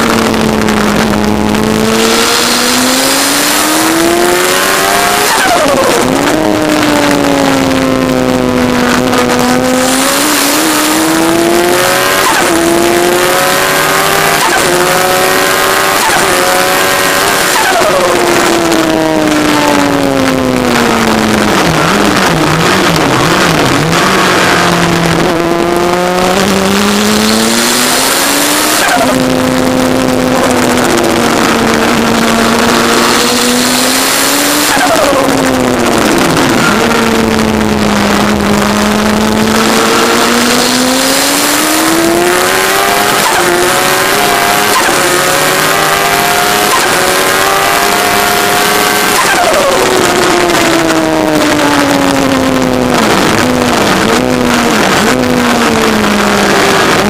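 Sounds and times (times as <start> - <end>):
car engine revving: 0.0 - 57.0
wind and road rush: 0.0 - 57.0.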